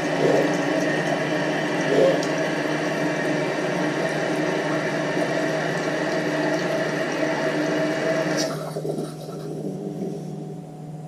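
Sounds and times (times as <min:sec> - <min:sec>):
toilet tank refilling: 0:00.0 - 0:10.5.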